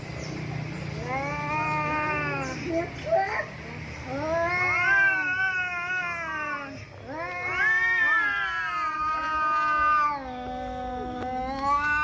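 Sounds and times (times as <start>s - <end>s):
cats yowling: 1.0s - 2.7s, 4.1s - 12.0s.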